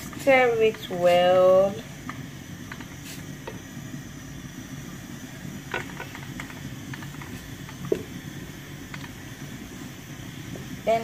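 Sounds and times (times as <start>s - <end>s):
steady low hum: 0.0s - 11.0s
vegetables frying in oil: 0.0s - 11.0s.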